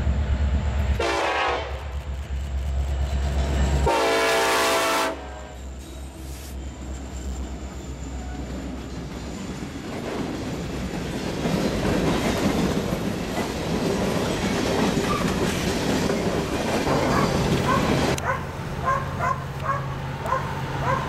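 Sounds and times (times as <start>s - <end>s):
diesel locomotive engine hum: 0.0s - 21.0s.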